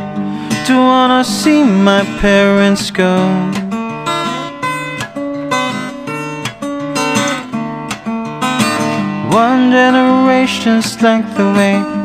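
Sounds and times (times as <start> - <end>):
acoustic guitar plucked notes: 0.0 - 12.0.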